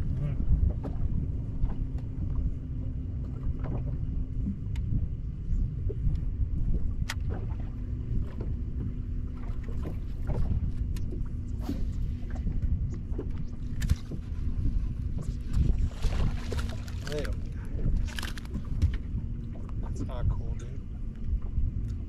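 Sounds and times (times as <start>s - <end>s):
steady low hum: 0.0s - 22.0s
water lapping against boat hull: 0.0s - 22.0s.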